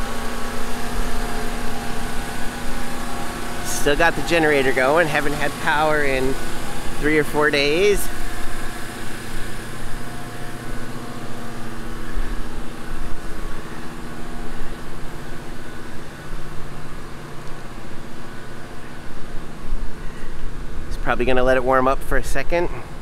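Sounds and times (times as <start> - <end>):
car engine idling: 0.0 - 21.0
portable generator running: 0.0 - 23.0.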